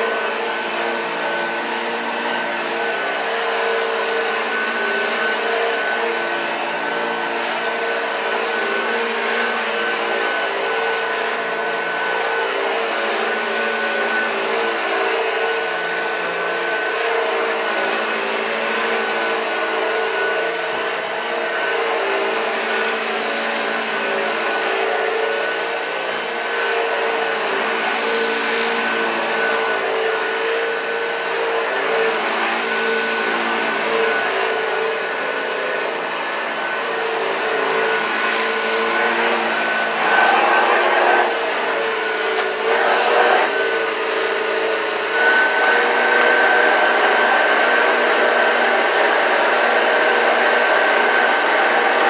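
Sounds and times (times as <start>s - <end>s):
vacuum cleaner motor whine: 0.0s - 52.0s.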